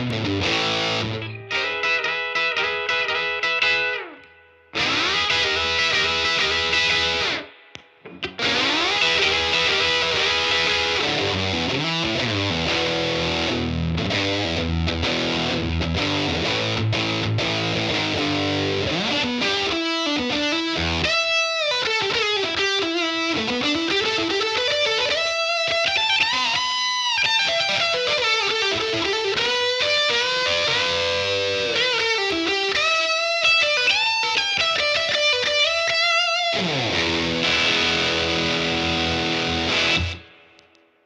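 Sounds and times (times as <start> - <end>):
overdriven electric guitar lead: 0.0 - 40.9.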